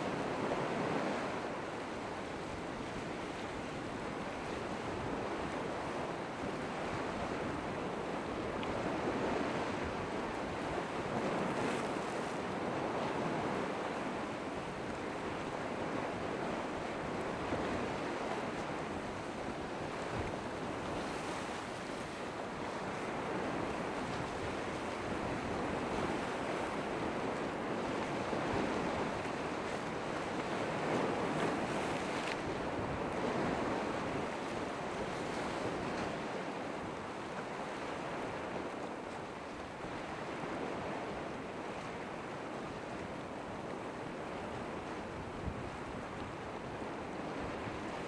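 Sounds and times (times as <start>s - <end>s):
waves breaking and washing in: 0.0s - 48.0s
wind: 0.0s - 48.0s.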